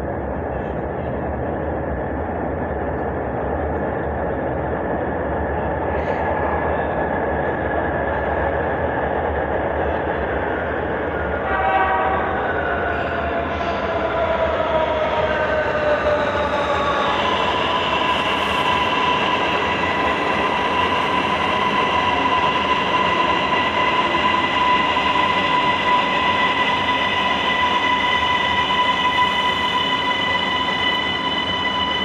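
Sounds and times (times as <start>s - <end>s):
metro train electric whine: 0.0s - 32.0s.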